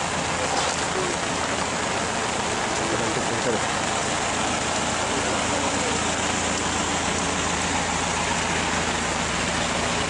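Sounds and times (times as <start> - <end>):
heavy rain on street: 0.0 - 10.0
low engine hum: 0.0 - 10.0.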